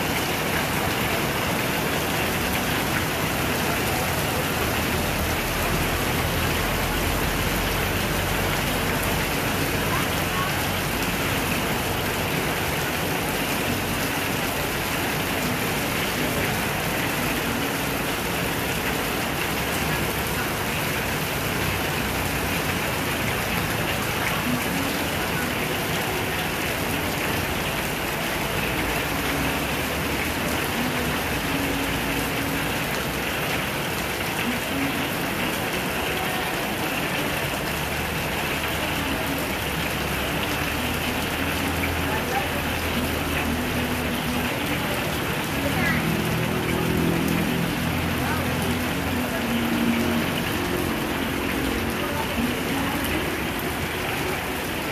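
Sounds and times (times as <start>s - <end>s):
heavy rain on pavement: 0.0s - 54.9s.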